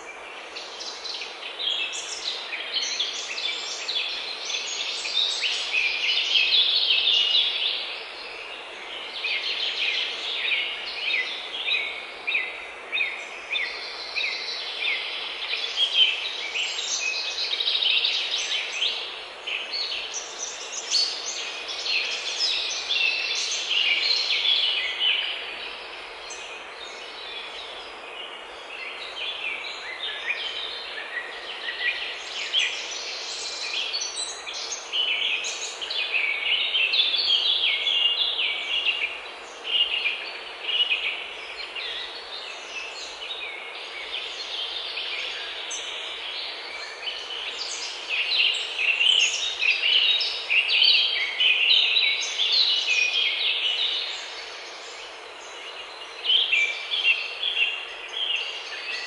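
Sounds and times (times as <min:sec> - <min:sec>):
faint background hiss: 0:00.0 - 0:59.0
songbirds singing: 0:00.0 - 0:59.0.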